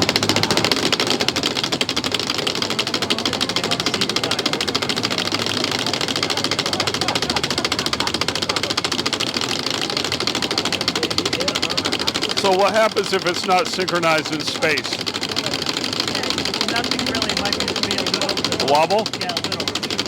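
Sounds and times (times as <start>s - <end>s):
small machine clattering: 0.0s - 20.0s.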